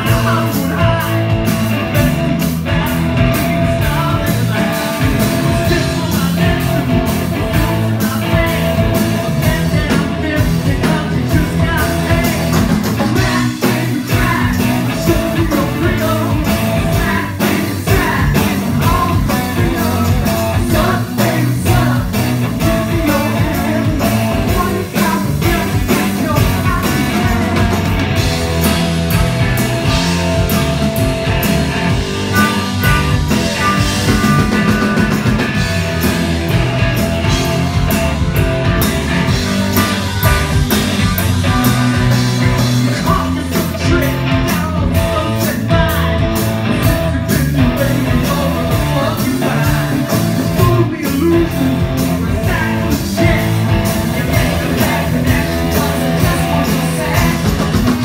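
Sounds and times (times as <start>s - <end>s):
man singing: 0.0s - 27.8s, 32.2s - 35.2s, 38.8s - 58.0s
live rock band playing: 0.0s - 58.0s.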